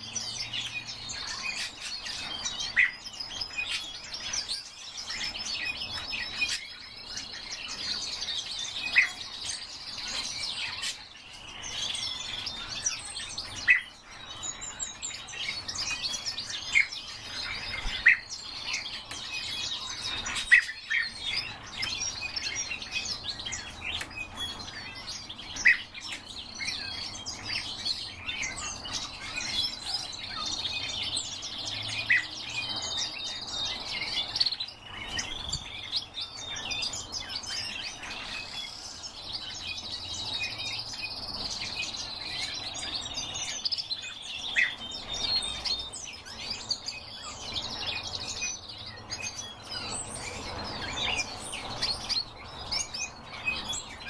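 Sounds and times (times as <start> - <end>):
birds twittering: 0.0 - 54.0.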